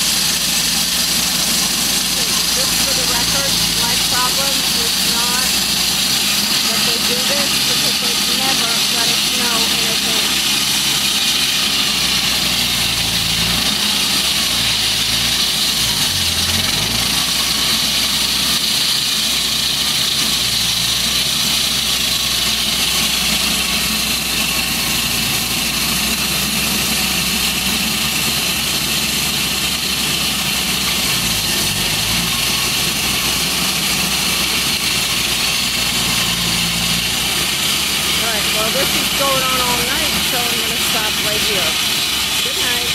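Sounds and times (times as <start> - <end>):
concrete saw cutting whine: 0.0 - 42.9
saw engine running: 0.0 - 42.9.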